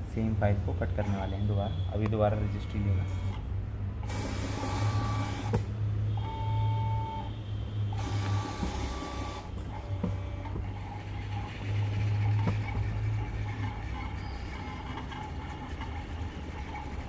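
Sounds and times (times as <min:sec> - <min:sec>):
plotter motors whining: 0:00.9 - 0:03.4, 0:04.0 - 0:17.0.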